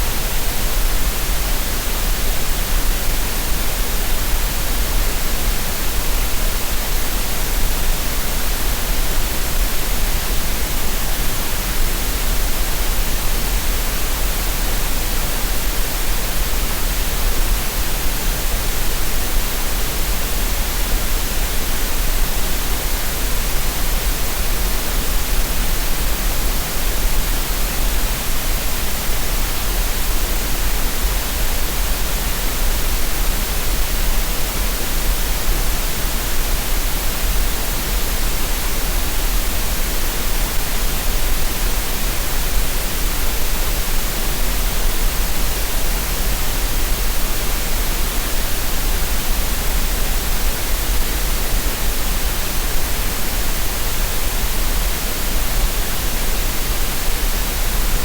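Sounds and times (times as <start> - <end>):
green noise hiss with low rumble: 0.0 - 58.0.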